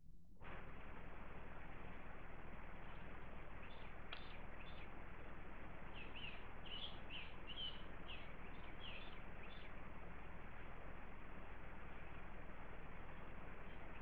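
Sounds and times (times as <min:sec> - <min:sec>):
steady hiss: 0:00.4 - 0:14.0
birds chirping: 0:01.8 - 0:14.0.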